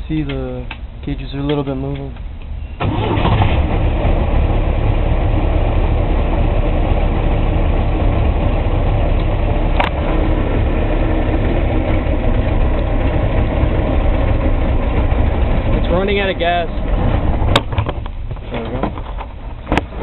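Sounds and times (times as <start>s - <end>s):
boat engine running: 2.9s - 20.0s.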